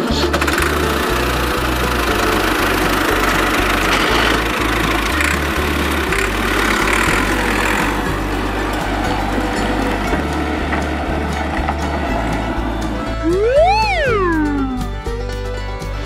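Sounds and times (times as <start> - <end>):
engine idling with knocking: 0.0 - 13.7
low pulsing bass: 0.0 - 16.0.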